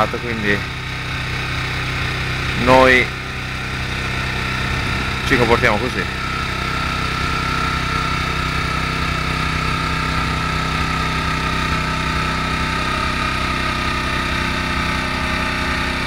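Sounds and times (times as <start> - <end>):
snowblower engine droning: 0.0 - 16.0
steady high whine: 0.0 - 16.0.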